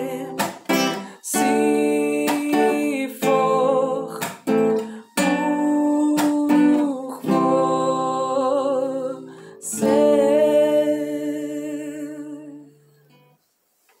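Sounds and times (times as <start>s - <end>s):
wordless singing with vibrato: 0.0s - 13.0s
acoustic guitar strumming chords: 0.0s - 13.3s.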